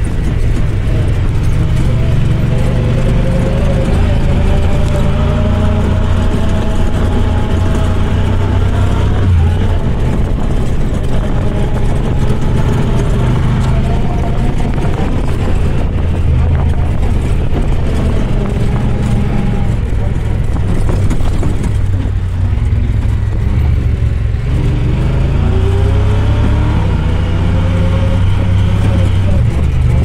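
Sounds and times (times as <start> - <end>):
off-road vehicle engine droning: 0.0 - 30.0.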